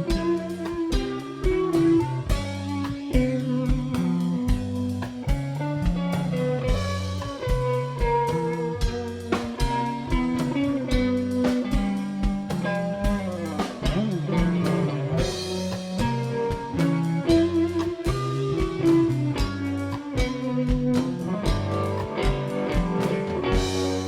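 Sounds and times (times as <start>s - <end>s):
drum kit beat: 0.0s - 24.0s
electric guitar notes: 0.0s - 24.0s.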